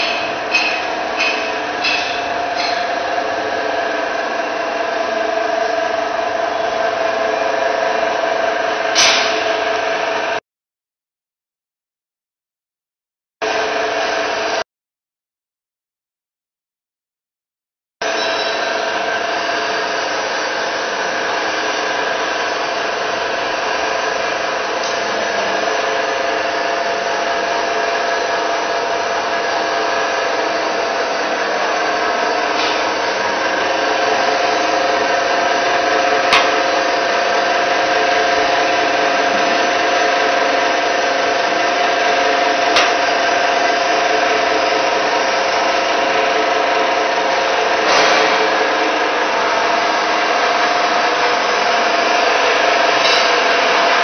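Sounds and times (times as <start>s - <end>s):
electric motor hum and whine: 0.0s - 10.4s, 13.4s - 14.6s, 18.0s - 54.0s.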